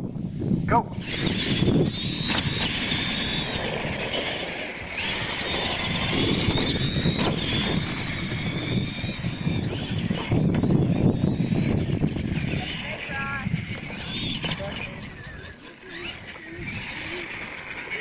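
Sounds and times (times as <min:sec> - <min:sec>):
electric motors and gears whining: 0:00.8 - 0:18.0.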